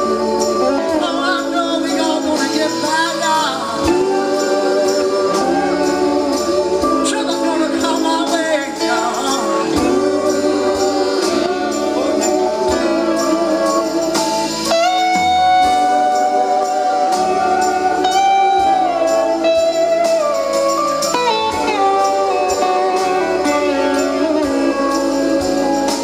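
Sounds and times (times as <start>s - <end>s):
electric slide guitar: 0.0s - 26.0s
live rock band playing: 0.0s - 26.0s.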